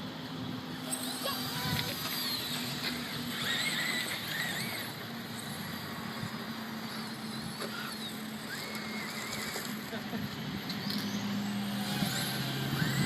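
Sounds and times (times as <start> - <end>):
quadcopter motors whining: 0.1 - 13.0.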